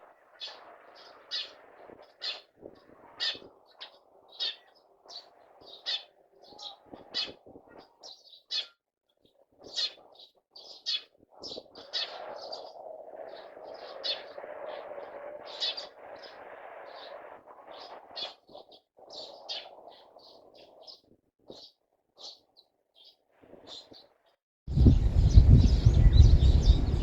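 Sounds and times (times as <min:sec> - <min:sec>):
sparrows chirping: 0:00.1 - 0:27.0.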